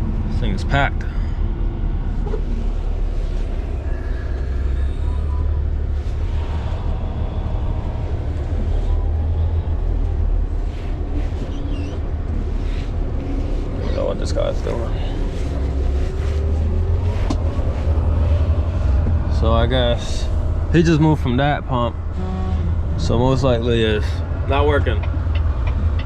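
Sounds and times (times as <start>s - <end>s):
truck engine low rumble: 0.0s - 26.0s.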